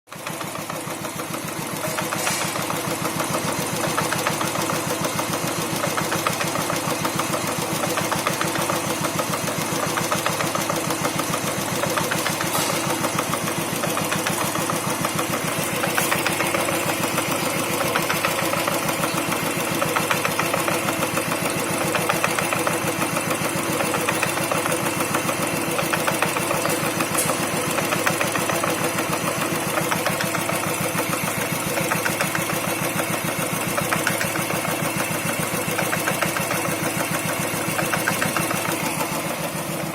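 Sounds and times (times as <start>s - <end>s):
clutch noise: 0.1s - 39.9s
motorcycle engine idling: 0.1s - 39.9s.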